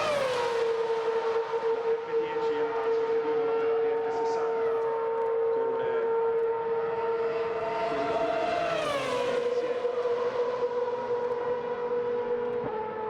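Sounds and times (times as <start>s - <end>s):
racing car engines high pitch: 0.0s - 13.0s.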